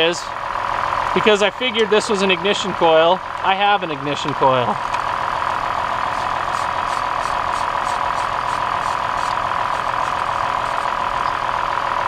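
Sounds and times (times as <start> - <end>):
car engine idling with ticking: 0.0 - 12.0.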